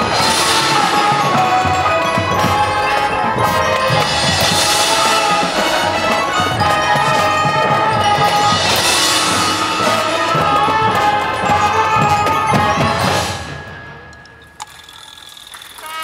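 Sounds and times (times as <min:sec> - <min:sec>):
marching band playing chords: 0:00.0 - 0:14.4.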